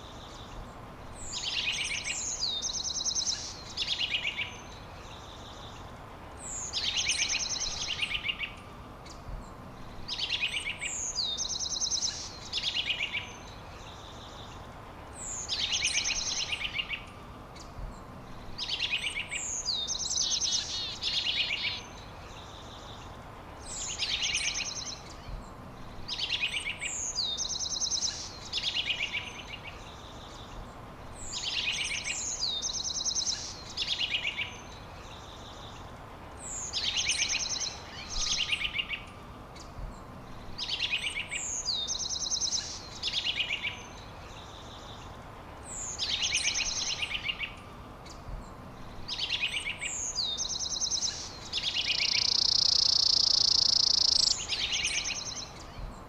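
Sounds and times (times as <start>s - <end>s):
songbird singing whistles and trills: 0.0s - 5.8s, 6.4s - 14.6s, 15.2s - 23.0s, 23.6s - 56.0s.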